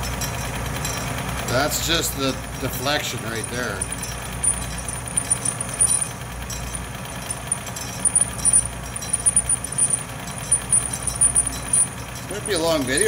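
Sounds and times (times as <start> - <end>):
metal lathe running: 0.0 - 13.0.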